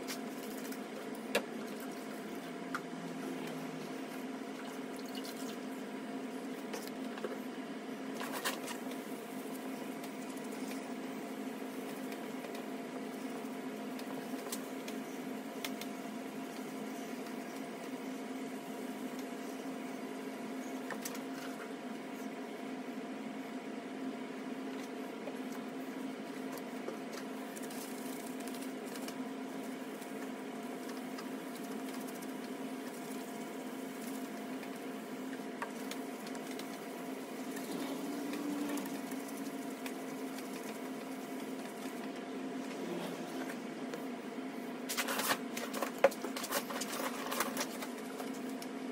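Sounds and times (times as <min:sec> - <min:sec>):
steady mechanical hum: 0:00.0 - 0:48.9.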